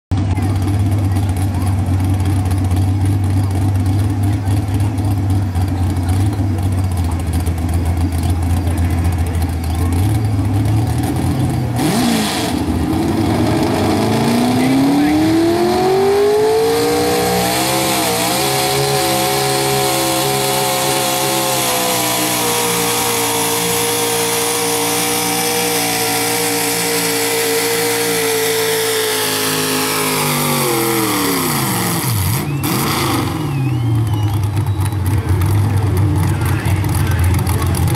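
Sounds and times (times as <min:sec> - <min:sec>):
truck engine idling and revving: 0:00.1 - 0:37.9.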